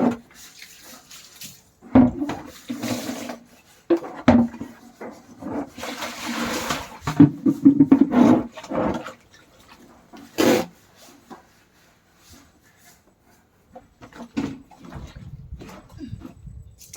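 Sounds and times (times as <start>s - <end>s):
wet clothes scrubbed by hand: 0.0s - 16.0s.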